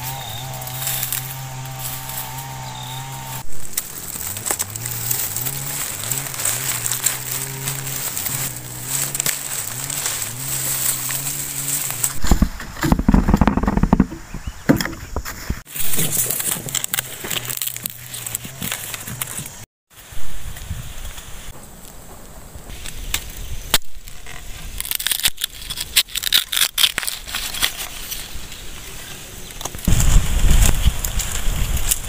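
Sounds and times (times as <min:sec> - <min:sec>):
bamboo leaves crackling underfoot: 0:00.0 - 0:13.4, 0:15.2 - 0:32.0.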